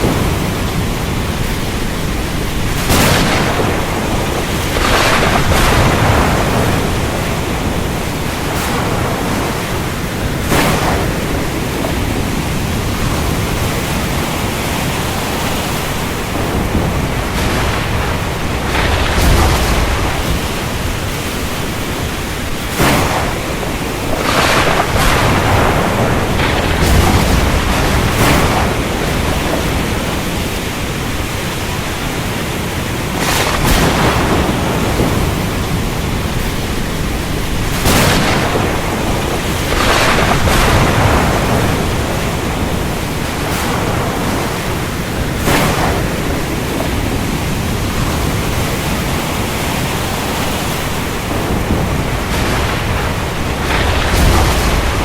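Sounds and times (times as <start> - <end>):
heavy rain: 0.0 - 55.0
low thunder rumbles: 0.0 - 55.0
thunder cracks: 0.0 - 55.0.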